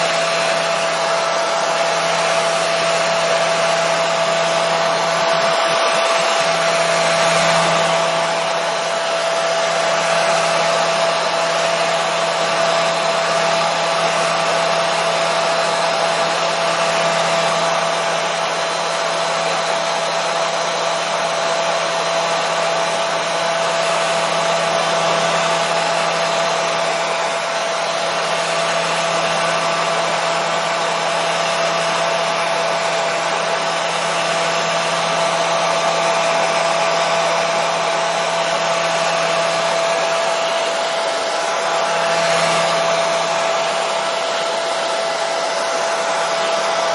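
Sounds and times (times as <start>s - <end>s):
hair dryer running: 0.0s - 46.9s.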